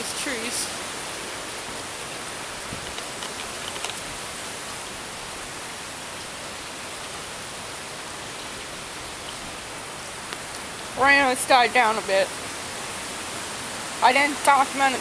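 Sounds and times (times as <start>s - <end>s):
heavy rain hissing: 0.0s - 15.0s
wind gusting through trees: 0.0s - 15.0s.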